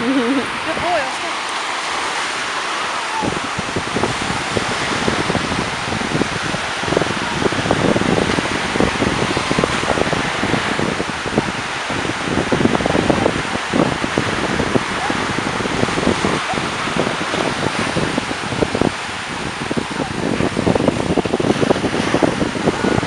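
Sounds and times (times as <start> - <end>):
small waves washing onto beach: 0.0 - 23.0
wind rumble on microphone: 0.0 - 23.0.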